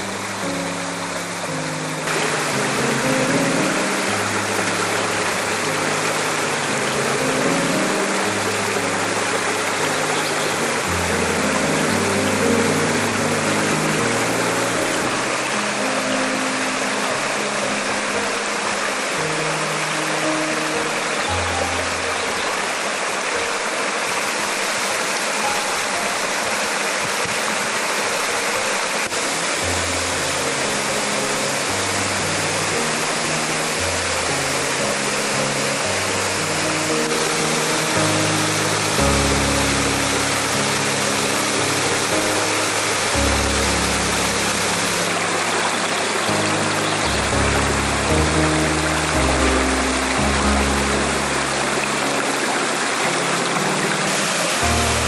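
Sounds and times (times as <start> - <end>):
slow low music notes: 0.0 - 24.0, 29.1 - 55.0
waterfall rushing: 0.0 - 55.0.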